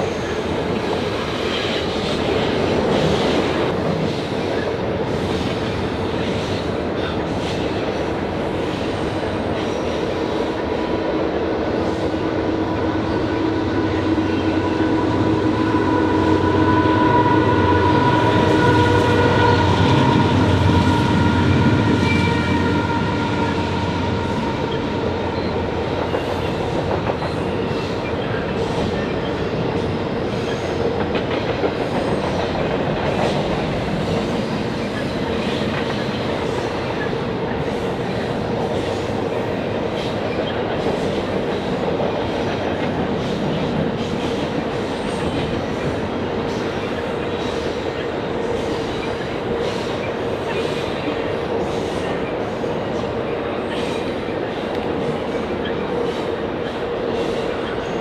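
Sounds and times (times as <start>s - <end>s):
train passing close by: 0.0s - 58.0s.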